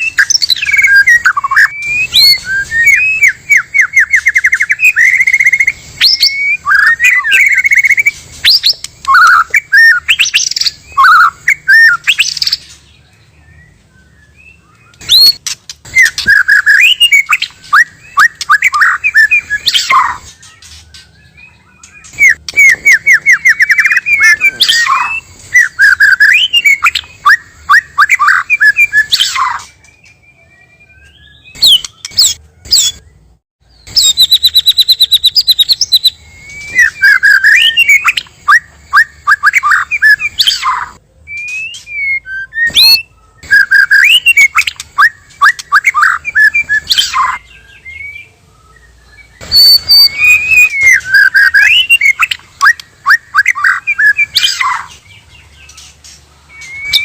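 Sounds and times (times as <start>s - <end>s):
birds singing trills and whistles: 0.0s - 57.0s.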